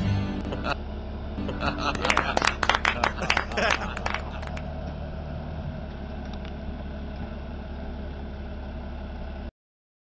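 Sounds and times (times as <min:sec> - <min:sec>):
heavy machine engine idling: 0:00.0 - 0:09.5.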